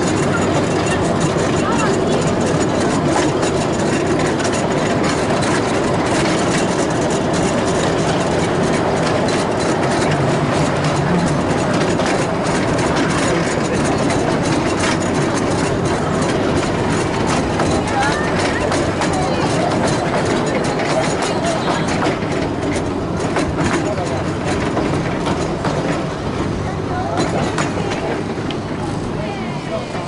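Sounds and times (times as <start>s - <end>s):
miniature train rumbling on rails: 0.0s - 30.0s.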